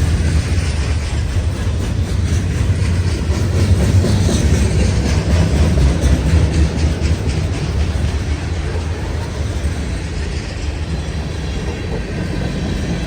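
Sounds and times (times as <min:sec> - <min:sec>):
freight train wheels rumbling: 0:00.0 - 0:13.0
wheels clicking over rail joints: 0:00.0 - 0:13.0.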